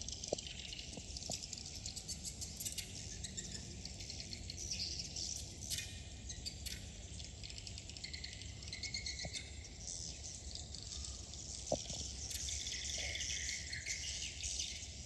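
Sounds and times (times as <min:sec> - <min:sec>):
birds twittering and clicking: 0:00.0 - 0:15.0.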